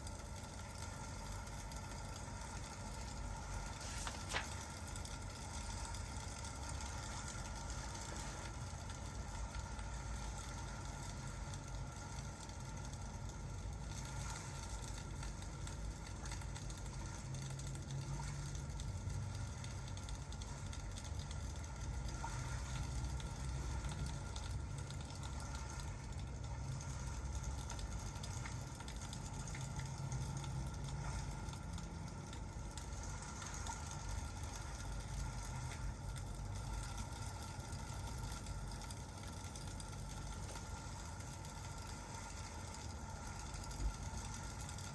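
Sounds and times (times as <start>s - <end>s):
continuous low rumble: 0.0s - 44.9s
faint fire crackles: 0.0s - 44.9s
steady rain: 0.0s - 44.9s.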